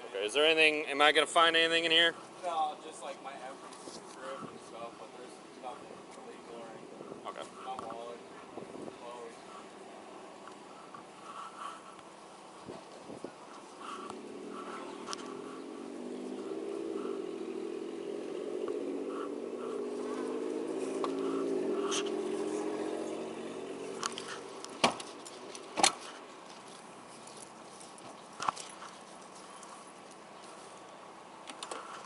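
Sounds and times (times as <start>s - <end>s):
vehicle engine passing: 1.1s - 27.6s.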